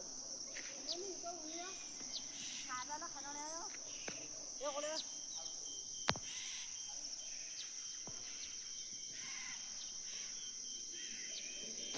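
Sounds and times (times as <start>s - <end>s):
insects droning: 0.0s - 11.9s
bird chirps: 0.7s - 11.9s.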